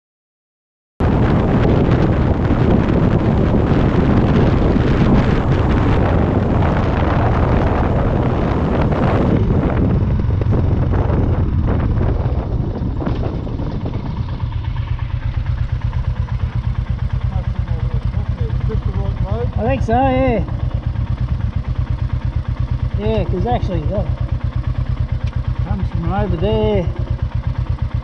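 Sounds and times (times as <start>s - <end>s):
motorcycle engine: 1.0s - 28.0s
wind noise on microphone: 1.0s - 28.0s.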